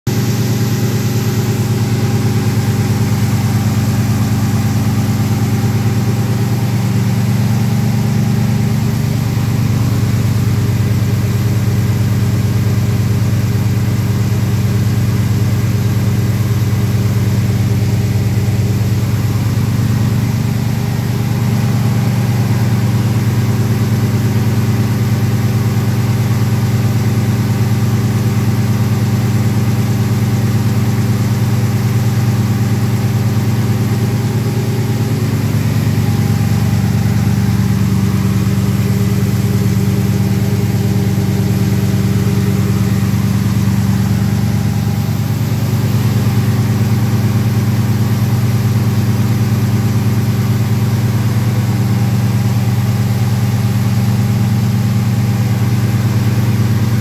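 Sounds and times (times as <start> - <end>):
car engine idling: 0.1 - 57.0.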